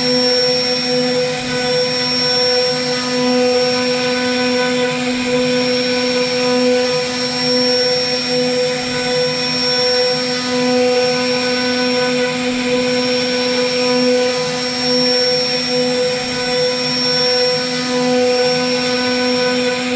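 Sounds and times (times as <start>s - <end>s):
router spindle whine: 0.0s - 19.9s.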